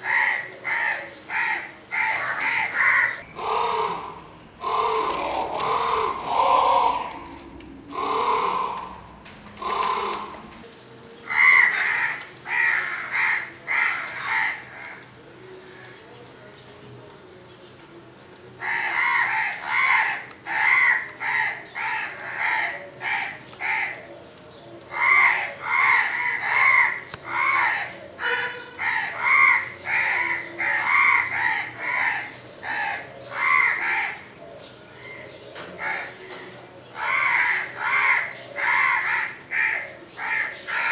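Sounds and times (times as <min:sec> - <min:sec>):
crows cawing: 0:00.0 - 0:07.2, 0:07.9 - 0:09.0, 0:09.6 - 0:10.4, 0:11.2 - 0:15.1, 0:18.6 - 0:24.1, 0:24.9 - 0:34.4, 0:35.0 - 0:40.9.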